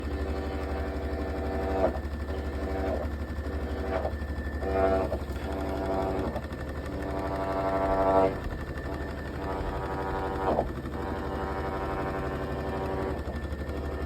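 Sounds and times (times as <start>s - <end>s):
low motor hum: 0.0s - 14.0s
washing machine buzzing scrape: 0.0s - 14.0s.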